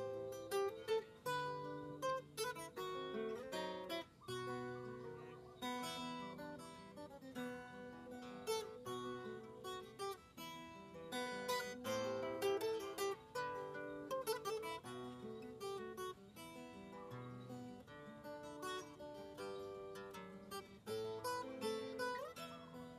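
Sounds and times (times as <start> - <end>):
acoustic guitar: 0.0 - 22.9.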